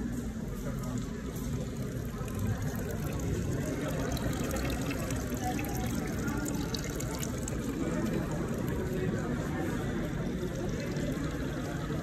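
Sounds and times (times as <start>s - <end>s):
crowd murmur in stone hall: 0.0s - 12.0s.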